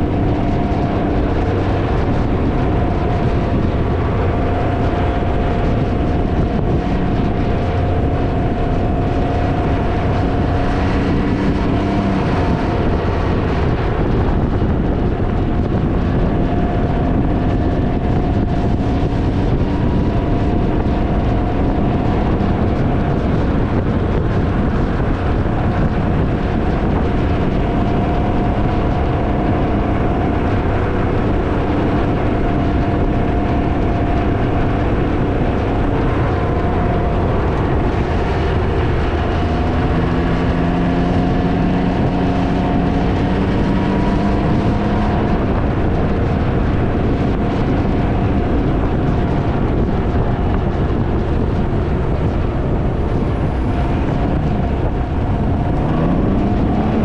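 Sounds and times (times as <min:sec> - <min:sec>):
motorcycle engine: 0:00.0 - 0:57.0
wind noise on microphone: 0:00.0 - 0:57.0.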